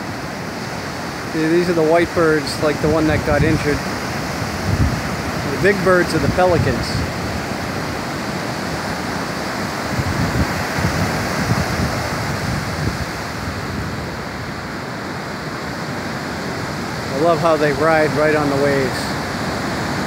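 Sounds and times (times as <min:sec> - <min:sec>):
ocean surf washing in: 0:00.0 - 0:20.0
wind buffeting microphone: 0:00.0 - 0:20.0.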